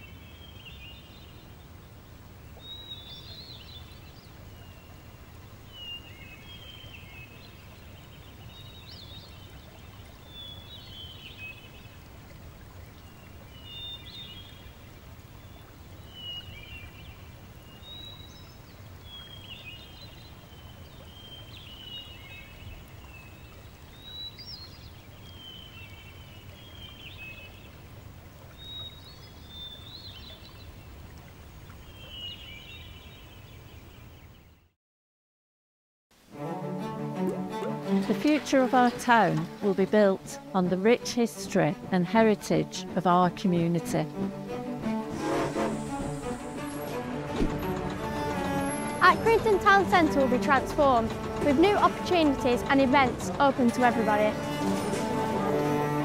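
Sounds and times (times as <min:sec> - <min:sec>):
running water: 0:00.0 - 0:34.1, 0:37.0 - 0:56.0
songbirds chirping: 0:00.0 - 0:34.7, 0:37.6 - 0:56.0.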